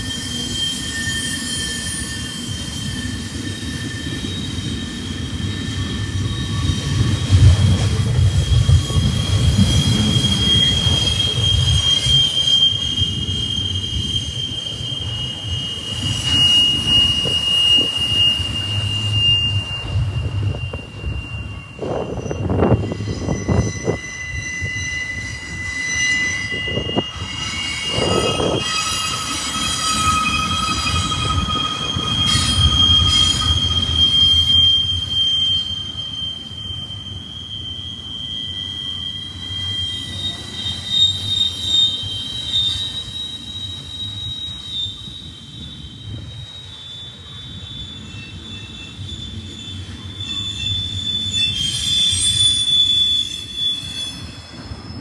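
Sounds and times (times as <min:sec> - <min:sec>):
rumble of steel wheels on rail: 0:00.0 - 0:55.0
train wheels squealing: 0:00.0 - 0:55.0.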